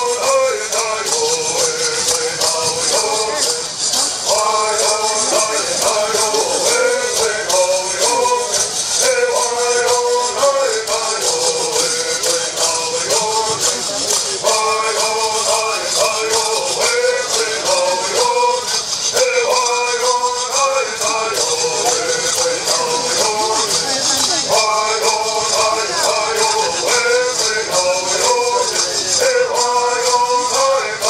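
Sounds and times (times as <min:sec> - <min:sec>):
gourd rattles shaking: 0:00.0 - 0:31.0
men singing: 0:00.0 - 0:31.0.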